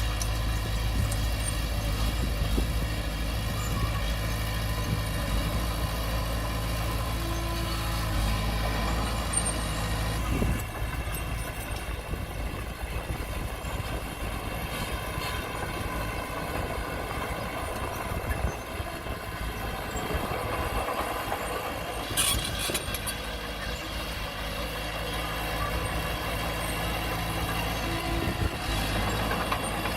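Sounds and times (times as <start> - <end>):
diesel engine of heavy machinery: 0.0 - 29.9.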